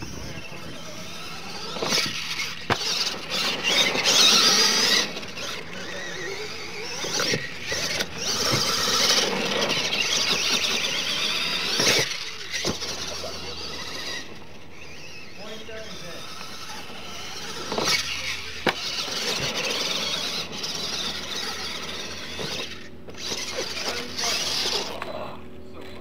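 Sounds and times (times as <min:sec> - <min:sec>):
rc truck motor whining: 0:00.0 - 0:26.0
tyres on loose dirt: 0:00.0 - 0:26.0.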